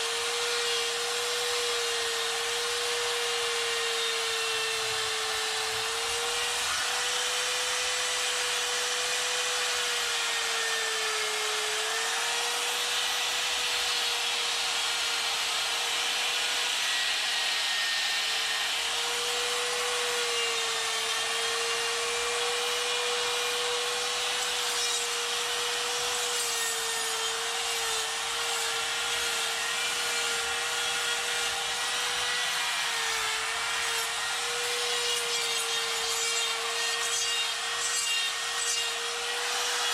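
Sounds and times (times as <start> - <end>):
burr rasping wood: 0.0 - 39.9
die grinder whining: 0.0 - 39.9.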